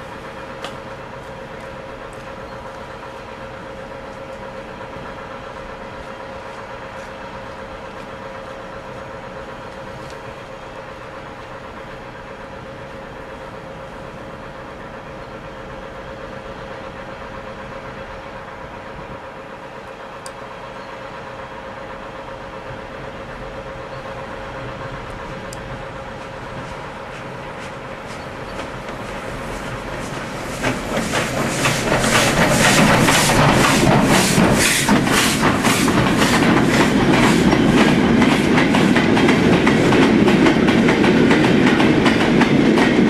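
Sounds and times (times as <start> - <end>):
steam locomotive rushing noise: 0.0 - 43.0.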